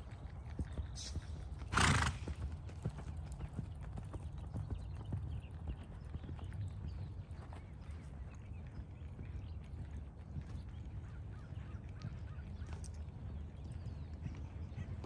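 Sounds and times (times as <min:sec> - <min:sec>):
hooves thudding on sand: 0:00.0 - 0:15.0.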